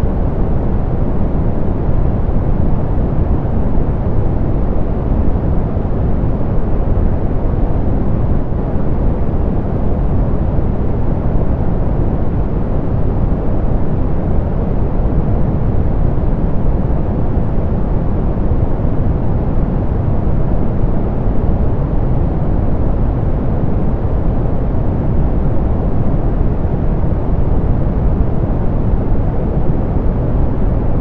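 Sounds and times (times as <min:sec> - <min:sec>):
low pink noise: 0:00.0 - 0:31.0.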